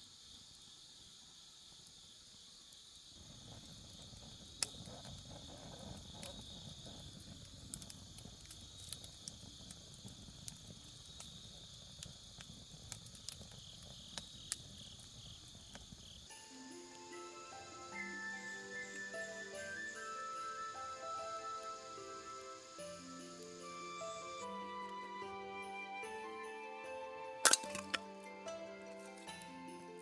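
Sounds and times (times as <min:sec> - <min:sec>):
insects chirring: 0:00.0 - 0:28.1
campfire burning and crackling: 0:00.2 - 0:30.0.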